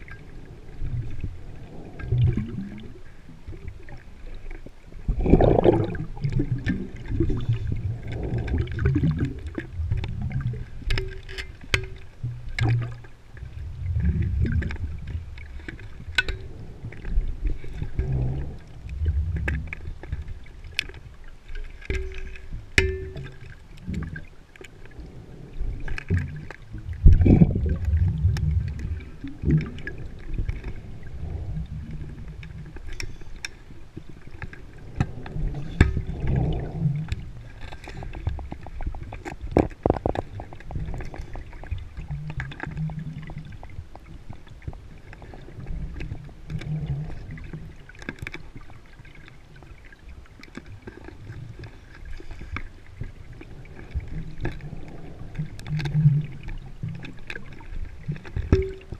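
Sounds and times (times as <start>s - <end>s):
underwater exhaled bubbles rumbling: 0.0s - 58.9s.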